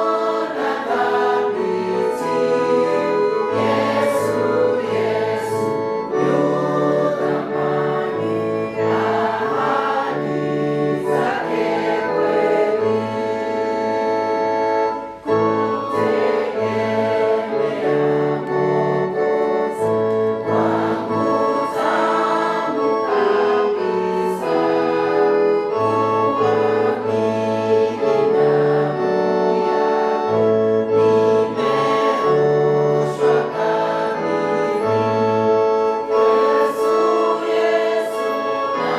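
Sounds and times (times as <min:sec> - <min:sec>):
choir singing: 0:00.0 - 0:38.9
organ-like keyboard chords: 0:00.0 - 0:38.9.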